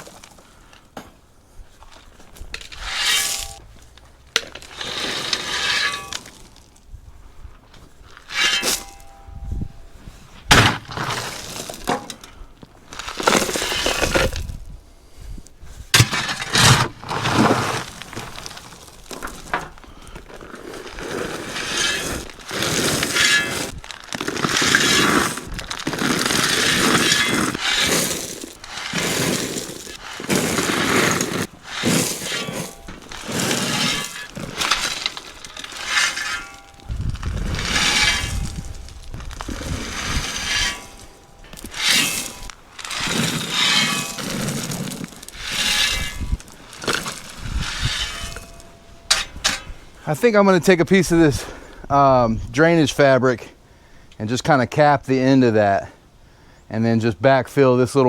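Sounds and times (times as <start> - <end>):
gravel crunching and clattering: 0.0 - 53.5.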